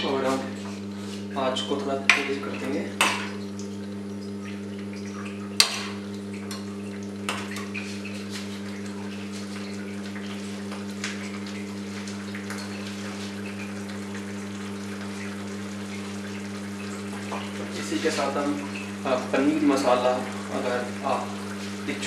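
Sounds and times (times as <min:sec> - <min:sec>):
steady low hum: 0:00.0 - 0:22.0
thick gravy bubbling: 0:00.2 - 0:22.0.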